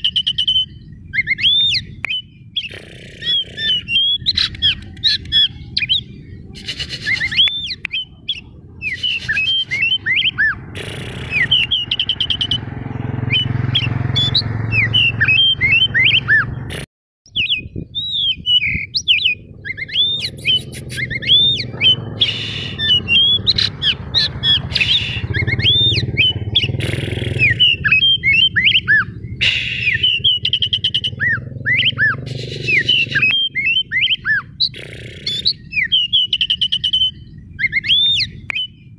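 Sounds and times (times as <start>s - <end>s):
bird singing whistled notes: 0.0s - 10.6s, 11.2s - 16.7s, 17.3s - 38.9s.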